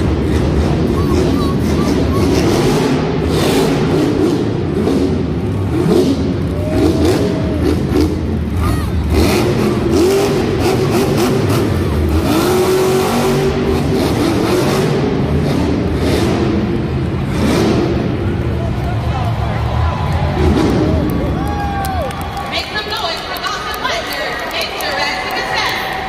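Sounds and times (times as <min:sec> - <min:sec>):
monster truck engine revving: 0:00.0 - 0:22.8.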